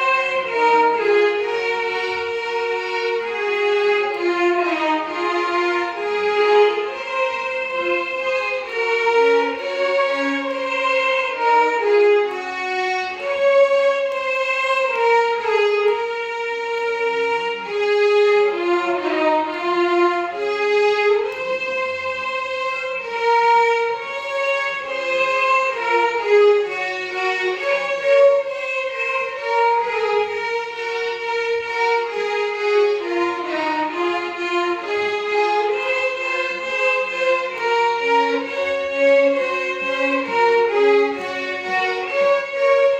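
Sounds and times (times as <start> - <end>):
violin ensemble playing melody: 0.0 - 42.9.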